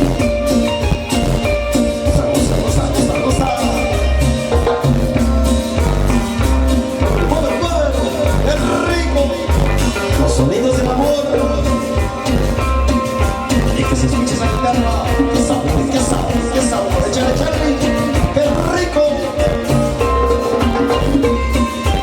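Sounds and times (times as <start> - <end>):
latin band music: 0.0 - 22.0.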